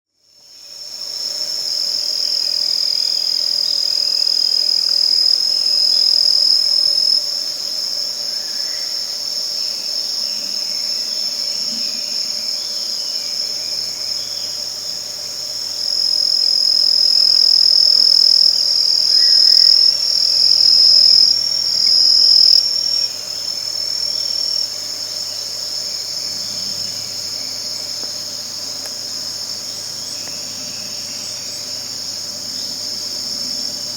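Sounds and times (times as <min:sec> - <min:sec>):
insects chirring: 0:00.2 - 0:33.9.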